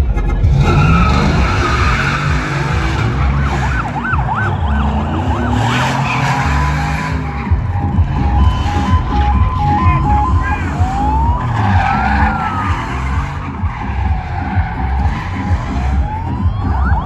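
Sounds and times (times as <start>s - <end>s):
tyres skidding: 0.0s - 17.0s
vehicle engines running: 0.0s - 17.0s
siren wailing: 0.4s - 17.0s.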